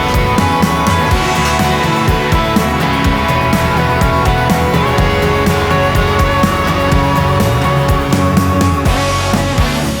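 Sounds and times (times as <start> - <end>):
electric guitar: 0.0 - 10.0
steady drum beat: 0.0 - 10.0.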